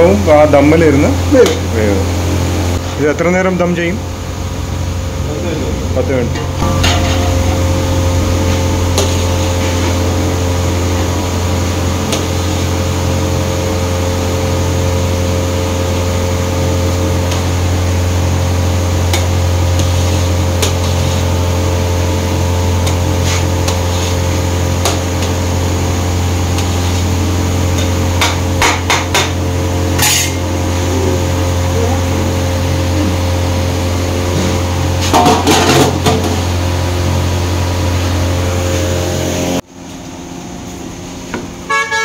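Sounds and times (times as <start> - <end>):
kitchen equipment humming: 0.0 - 42.0.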